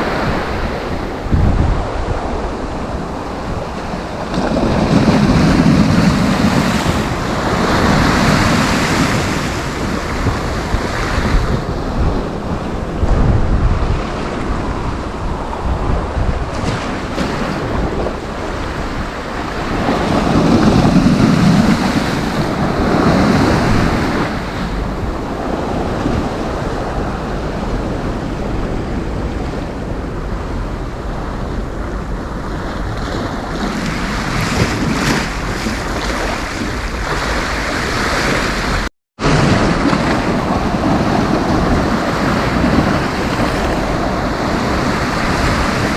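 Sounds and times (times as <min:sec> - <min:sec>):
sea waves breaking: 0:00.0 - 0:45.9
wind rumbling on microphone: 0:00.0 - 0:45.9.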